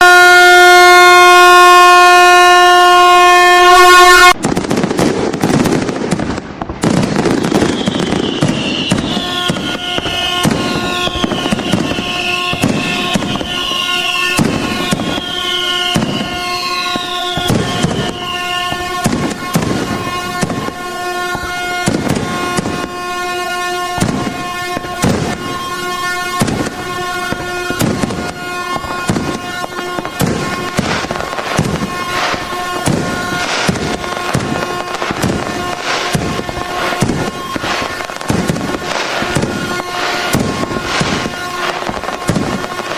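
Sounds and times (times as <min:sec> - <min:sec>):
air horn tone: 0:00.0 - 0:04.4, 0:07.6 - 0:42.9
falling firework whistles: 0:00.0 - 0:42.9
fireworks bangs and crackles: 0:00.0 - 0:42.9.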